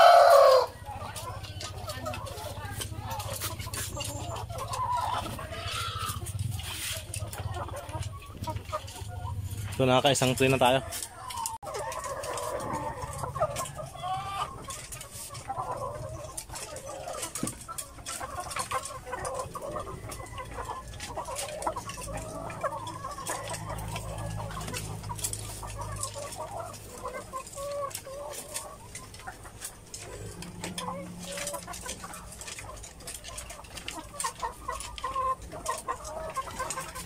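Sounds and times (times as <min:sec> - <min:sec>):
hens clucking: 0:00.0 - 0:37.0.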